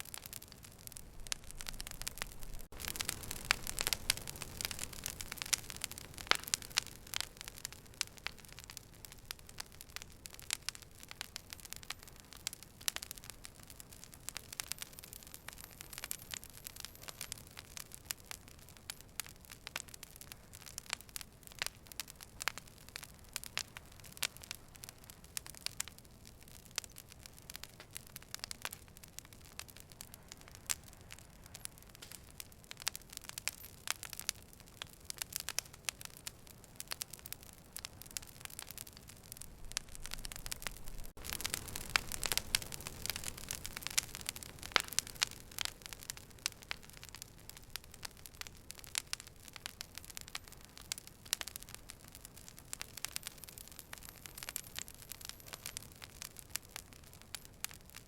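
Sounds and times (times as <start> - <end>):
fire hissing: 0.0 - 57.8
fire crackling and popping: 0.0 - 58.0.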